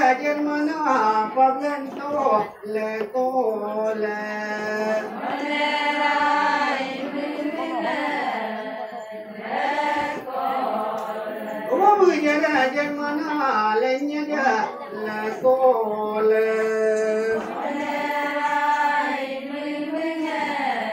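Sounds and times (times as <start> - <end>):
voices chanting: 0.0 - 20.9.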